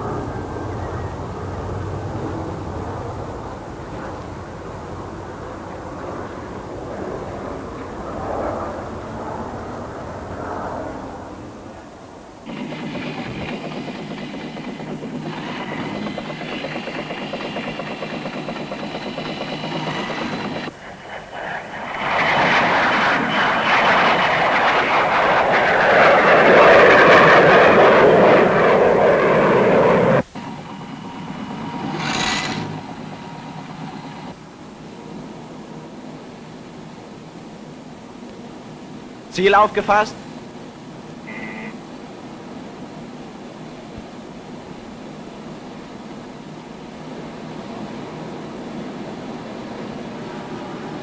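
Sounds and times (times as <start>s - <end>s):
jet engine with faint whine: 0.0s - 51.0s.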